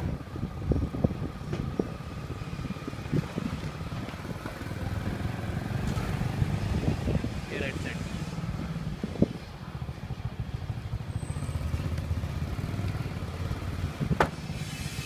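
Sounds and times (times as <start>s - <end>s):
vehicle engine driving: 0.0s - 15.0s.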